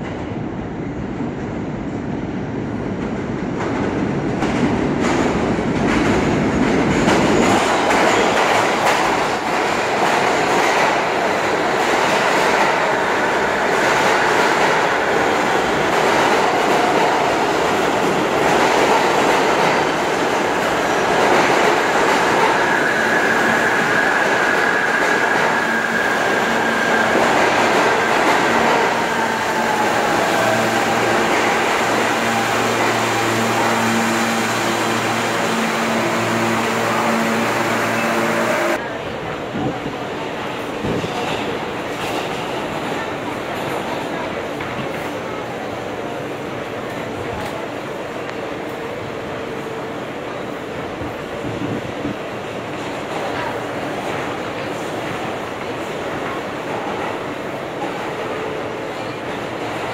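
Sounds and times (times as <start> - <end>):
subway train wheels on rail: 0.0 - 59.9.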